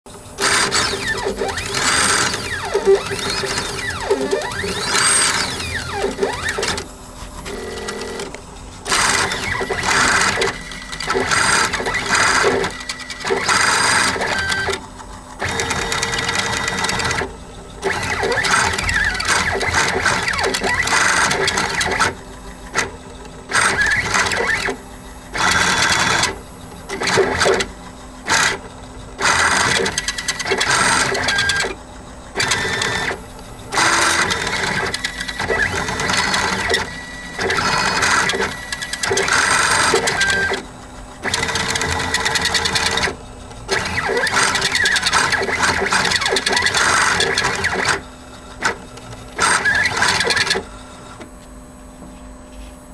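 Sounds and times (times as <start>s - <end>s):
stepper motors buzzing and whining: 0.1s - 51.5s.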